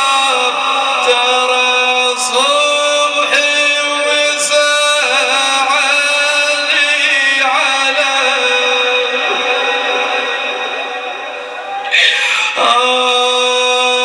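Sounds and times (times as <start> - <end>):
man chanting a mourning lament: 0.0 - 14.0.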